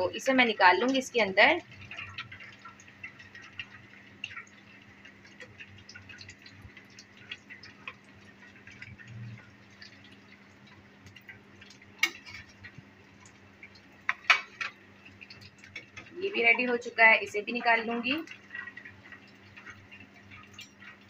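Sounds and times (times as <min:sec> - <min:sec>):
food deep-frying in oil: 0:00.0 - 0:21.0.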